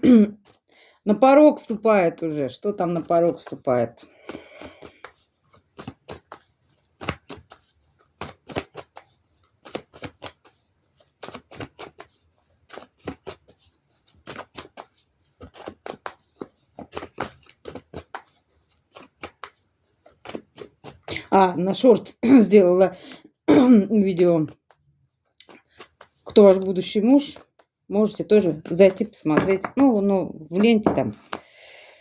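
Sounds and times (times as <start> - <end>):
cards shuffling and flicking: 2.7 - 21.3, 24.4 - 31.6.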